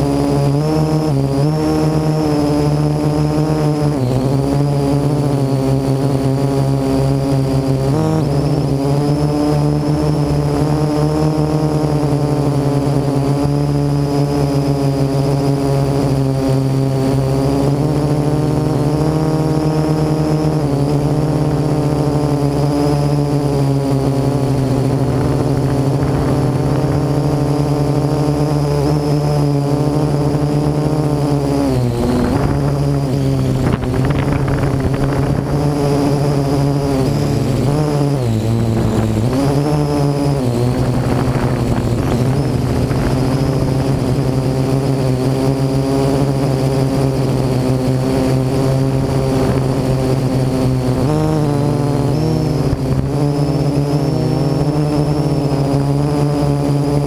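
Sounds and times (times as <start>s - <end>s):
drone rotors buzzing: 0.0s - 57.0s.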